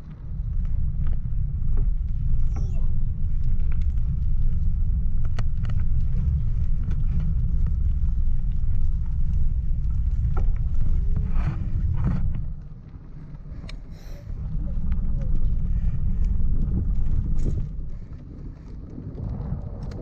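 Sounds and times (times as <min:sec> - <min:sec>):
bike clicking: 0:00.0 - 0:20.0
tyre noise on asphalt: 0:00.0 - 0:20.0
wind rumbling on microphone: 0:00.0 - 0:20.0.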